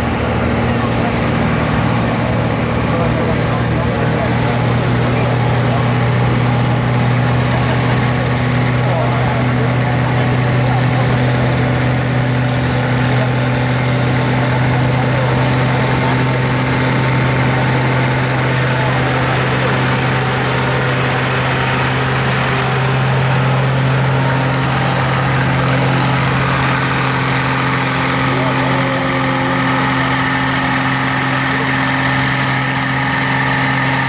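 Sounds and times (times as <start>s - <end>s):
tractor engine droning: 0.0s - 34.0s.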